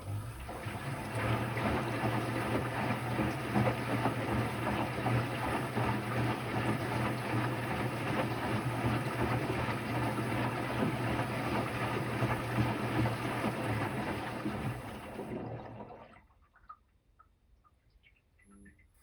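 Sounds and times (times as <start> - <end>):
rushing gurgling water: 0.0 - 16.1
washing machine hum: 0.0 - 16.8.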